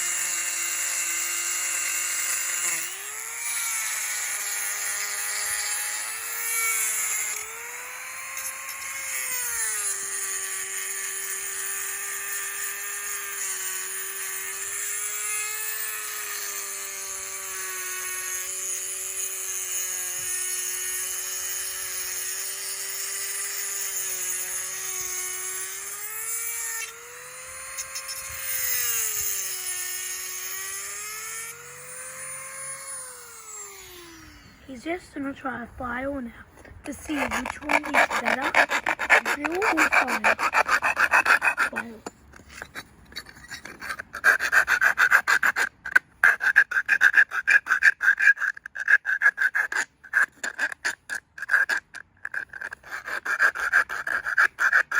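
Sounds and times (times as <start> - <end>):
rotary tool grinding: 0.0 - 35.5, 36.6 - 54.9.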